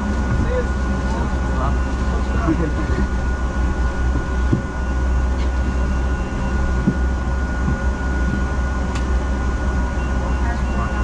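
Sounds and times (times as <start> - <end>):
bus engine idling: 0.0 - 11.0
thin high whine: 0.0 - 11.0.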